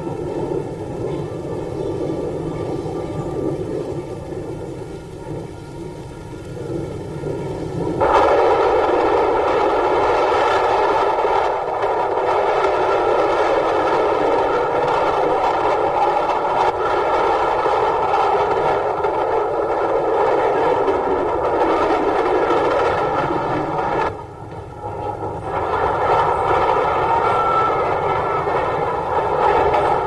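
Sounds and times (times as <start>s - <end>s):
sled rattling down wooden track: 0.0s - 30.0s.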